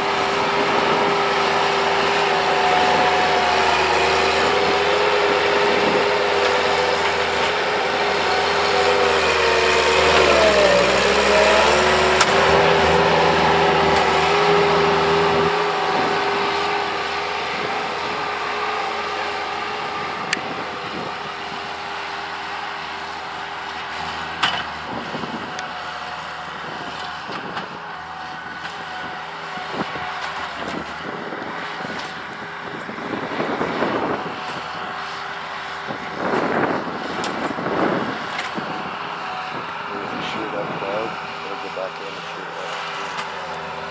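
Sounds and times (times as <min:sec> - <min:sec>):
skid loader engine running: 0:00.0 - 0:43.9.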